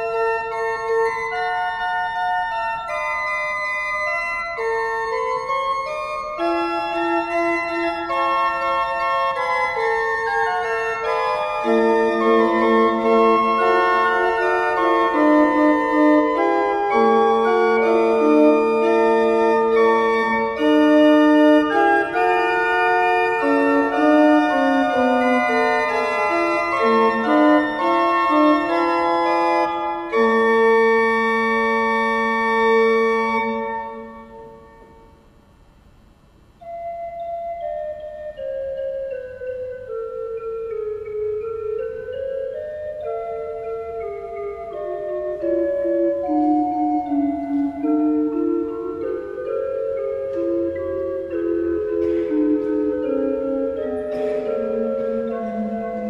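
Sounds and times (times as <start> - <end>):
slow keyboard chords: 0.0 - 56.0.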